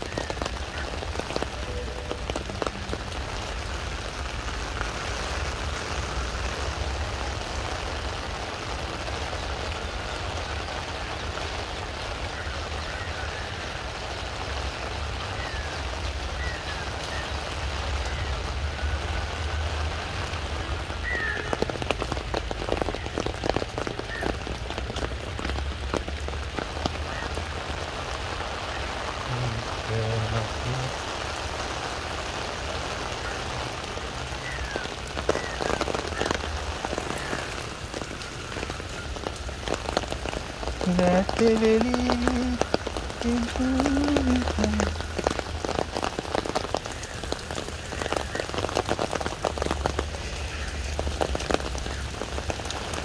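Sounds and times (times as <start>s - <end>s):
steady rain on paving stones: 0.0s - 53.0s.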